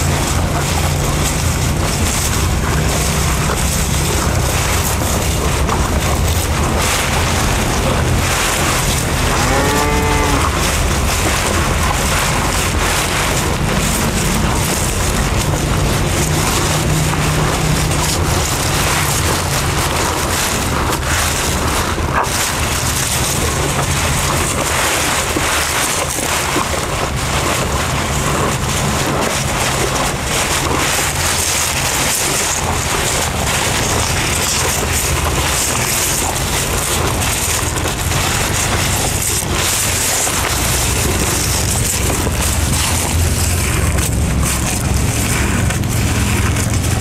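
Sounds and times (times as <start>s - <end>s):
bulls chewing grass: 0.0s - 47.0s.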